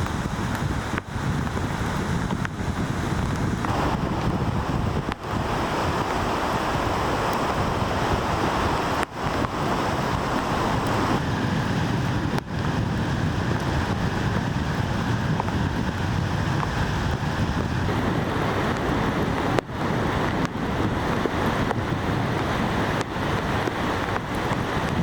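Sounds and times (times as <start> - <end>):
rushing river water: 0.0 - 25.0.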